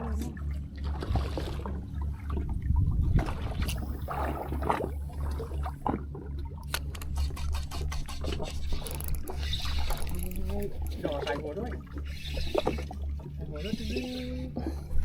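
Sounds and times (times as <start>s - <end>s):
low hum: 0.0s - 15.0s
water splashing and sloshing: 0.0s - 15.0s.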